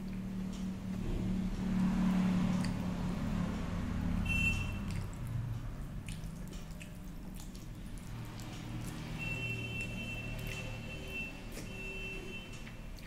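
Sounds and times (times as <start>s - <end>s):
soft wet squishing of food: 0.0s - 13.0s.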